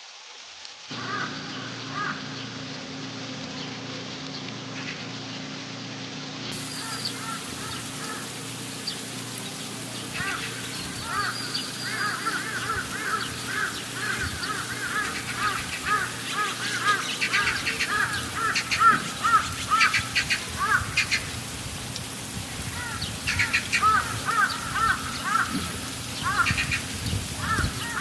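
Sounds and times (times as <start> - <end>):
birds twittering: 0.9 - 28.0
birds chirping: 1.0 - 28.0.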